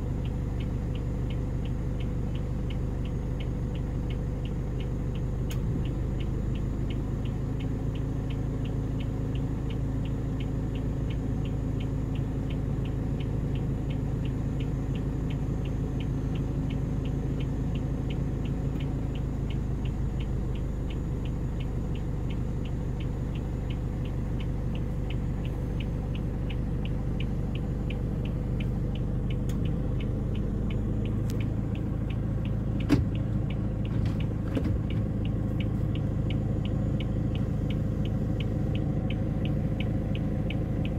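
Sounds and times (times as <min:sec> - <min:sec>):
vehicle engine idling: 0:00.0 - 0:40.9
even ticking: 0:00.1 - 0:40.9.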